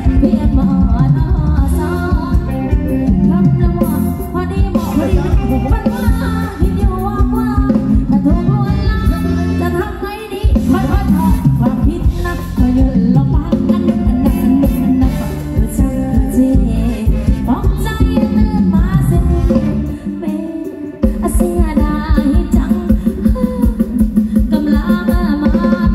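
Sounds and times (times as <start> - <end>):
live band dance music: 0.0 - 25.9
person singing: 0.0 - 25.9.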